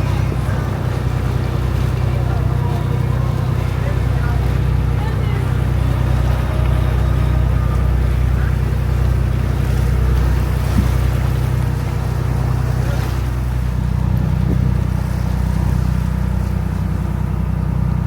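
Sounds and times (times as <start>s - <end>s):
boat engine droning: 0.0s - 18.0s
water noise: 0.0s - 18.0s.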